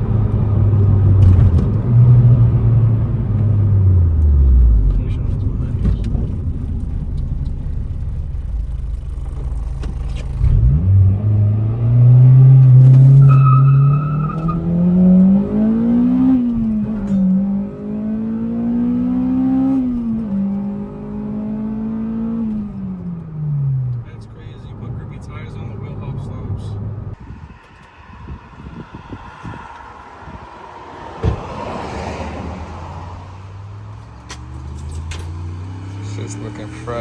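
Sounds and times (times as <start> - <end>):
car engine revving through gears: 0.0 - 24.2, 31.2 - 37.0.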